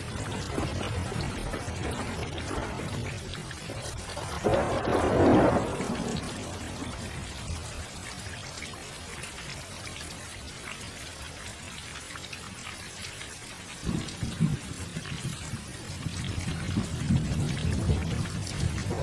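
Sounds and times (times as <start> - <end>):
rain-like water hiss: 0.0 - 19.0.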